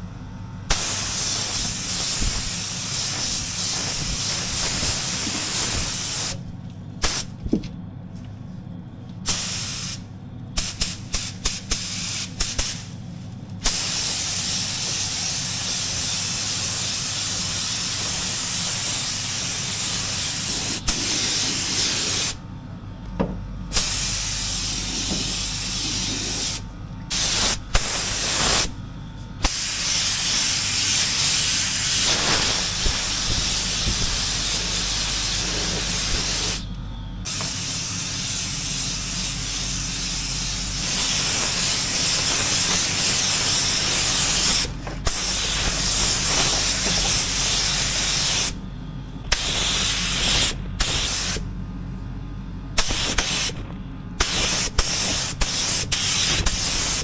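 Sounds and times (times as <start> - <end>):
steady low hum: 0.0 - 57.0
spray gun hissing: 0.7 - 6.4, 9.3 - 12.9, 13.6 - 22.4, 23.7 - 28.7, 29.4 - 36.6, 37.3 - 48.6, 49.3 - 51.4, 52.8 - 53.6, 54.2 - 57.0.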